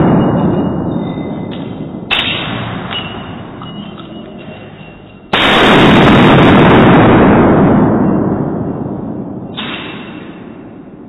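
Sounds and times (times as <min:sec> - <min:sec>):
loud indoor gunshots: 0:00.0 - 0:03.6, 0:05.3 - 0:11.0.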